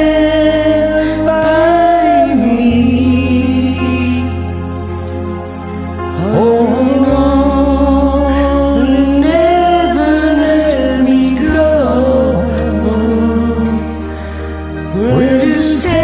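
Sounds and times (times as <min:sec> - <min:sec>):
karaoke backing track: 0:00.0 - 0:16.0
person singing: 0:00.0 - 0:16.0.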